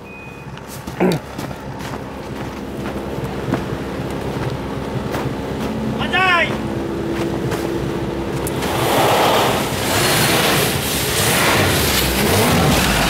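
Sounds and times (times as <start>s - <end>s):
snowmobile engine running: 0.7s - 13.0s.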